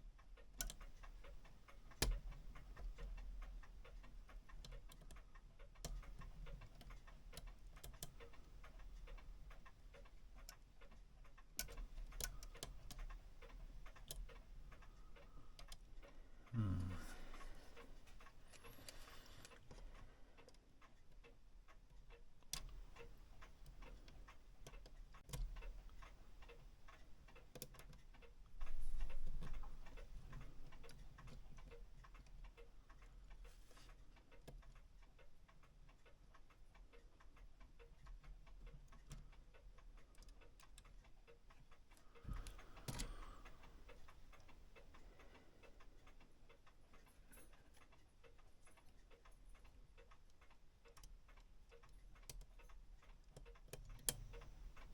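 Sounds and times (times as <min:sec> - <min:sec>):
clock ticking: 0:00.0 - 0:54.9.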